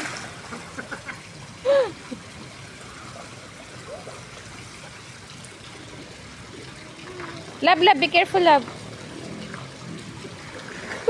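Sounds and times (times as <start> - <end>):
pool water trickling and lapping: 0.0 - 11.0.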